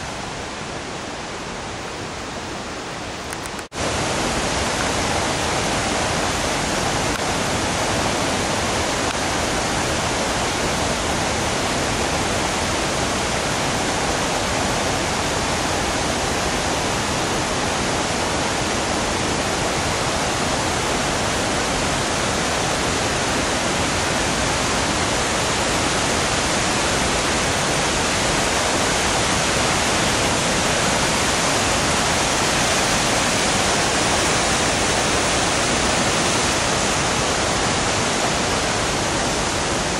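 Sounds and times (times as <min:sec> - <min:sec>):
river rapids rushing over rocks: 0:00.0 - 0:39.9.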